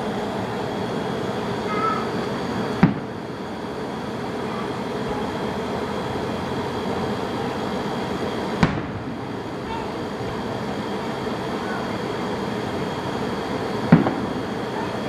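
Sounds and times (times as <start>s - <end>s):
fireworks bursting: 0.0s - 15.0s
steady background rumble: 0.0s - 15.0s.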